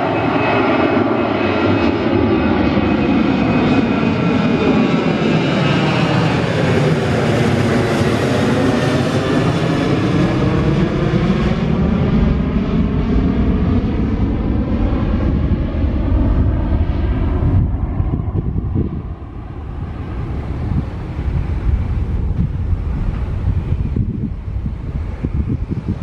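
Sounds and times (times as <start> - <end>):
jet engines whining overhead: 0.0 - 26.0.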